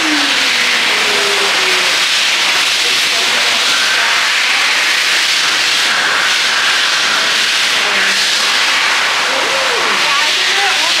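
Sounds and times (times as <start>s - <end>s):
loud steady hiss: 0.0s - 11.0s.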